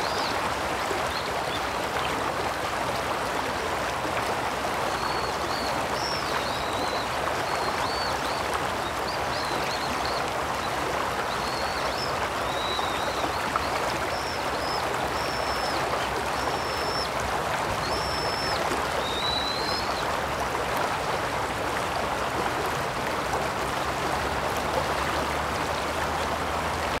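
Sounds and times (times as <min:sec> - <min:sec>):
stream babbling over stones: 0:00.0 - 0:27.0.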